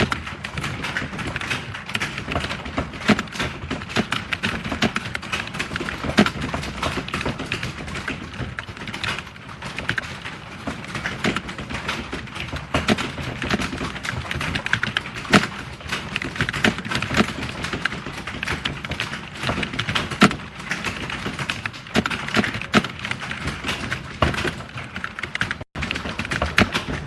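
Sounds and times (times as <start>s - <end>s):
keyboard typing: 0.0s - 27.0s.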